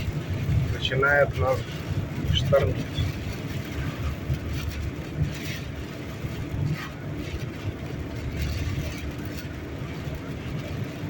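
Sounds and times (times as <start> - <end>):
road and engine rumble in car: 0.0 - 11.0
wind gusts buffeting car: 0.0 - 11.0.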